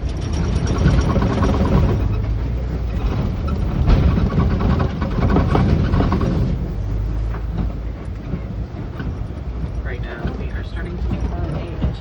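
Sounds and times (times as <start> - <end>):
vehicle body clattering: 0.0 - 12.0
vehicle engine rumble: 0.0 - 12.0.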